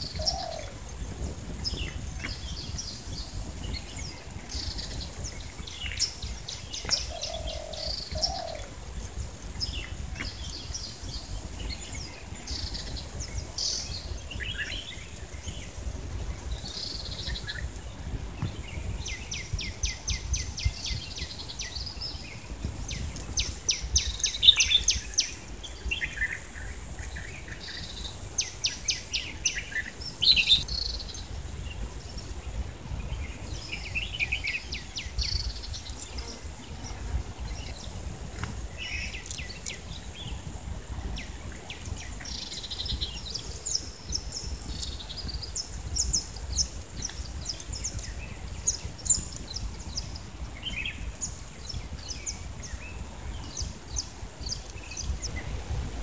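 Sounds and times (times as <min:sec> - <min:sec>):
small birds chirping: 0:00.0 - 0:55.6.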